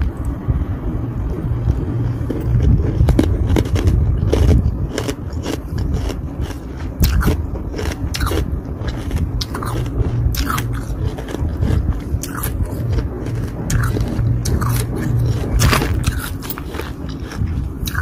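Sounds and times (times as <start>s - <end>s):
deep rumble: 0.0s - 18.0s
ice being chewed: 1.6s - 18.0s.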